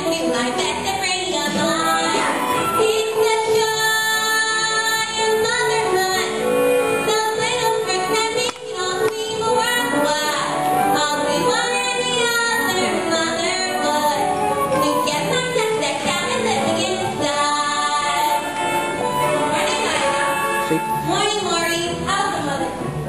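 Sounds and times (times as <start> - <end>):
woman singing: 0.0 - 6.4, 7.0 - 22.9
instrumental accompaniment: 0.0 - 23.0.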